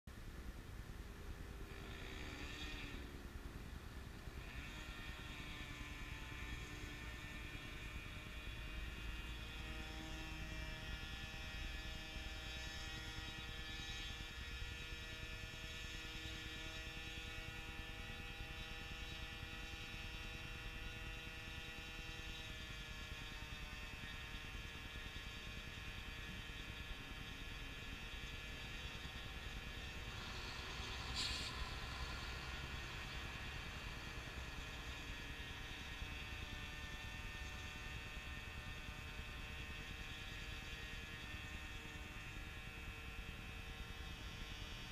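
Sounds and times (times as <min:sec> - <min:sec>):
faint motor drone: 0:00.1 - 0:44.9.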